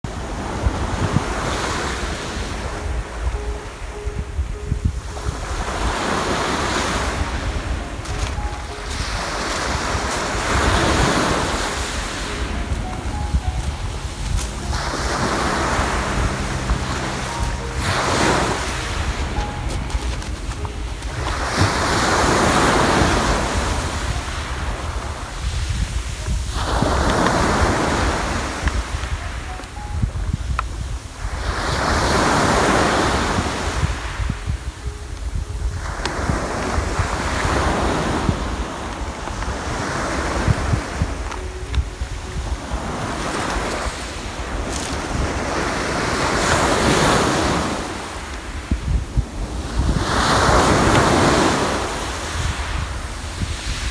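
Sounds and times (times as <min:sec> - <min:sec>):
sea waves washing ashore: 0:00.0 - 0:53.9
wind rumbling on microphone: 0:00.0 - 0:53.9.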